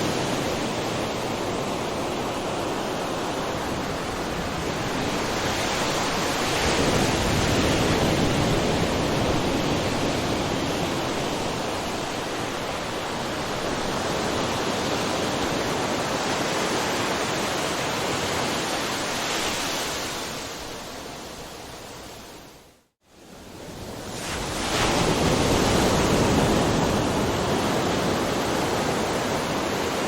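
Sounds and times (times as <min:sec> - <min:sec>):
waves breaking: 0:00.0 - 0:21.6, 0:23.9 - 0:30.0.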